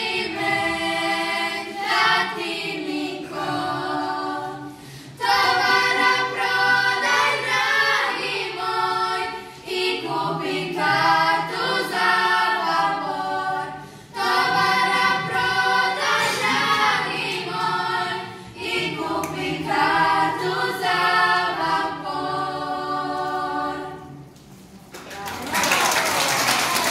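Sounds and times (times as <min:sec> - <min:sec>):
girls singing in parts: 0:00.0 - 0:24.4.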